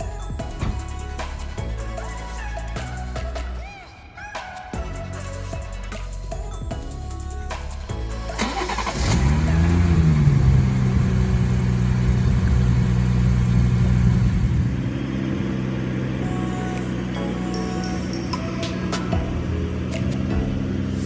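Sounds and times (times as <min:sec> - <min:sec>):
car engine starting and idling: 0:00.0 - 0:04.0, 0:04.8 - 0:21.0.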